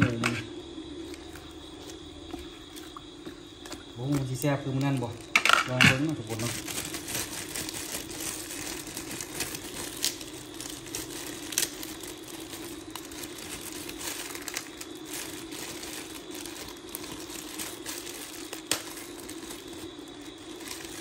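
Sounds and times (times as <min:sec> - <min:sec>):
pork rinds crinkling and crackling: 0:00.0 - 0:21.0
steady low hum: 0:00.0 - 0:21.0.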